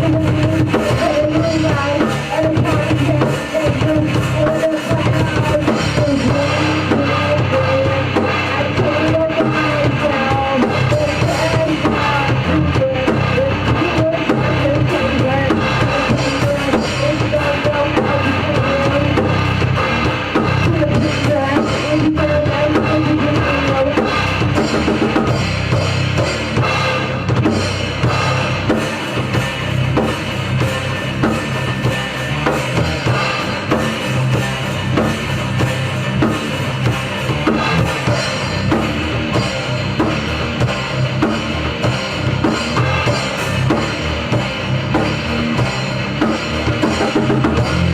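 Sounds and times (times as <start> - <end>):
drum kit beat: 0.0 - 47.9
rock band playing live: 0.0 - 47.9.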